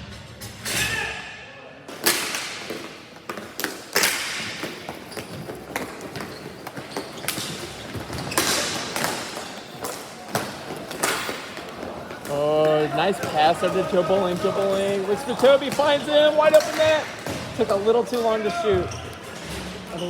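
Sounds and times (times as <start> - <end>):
ball hitting rink boards: 1.9 - 19.0.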